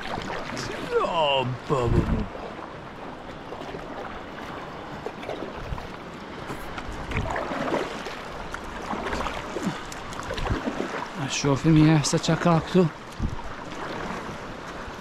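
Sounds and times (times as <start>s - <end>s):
water lapping against a boat: 0.0s - 15.0s.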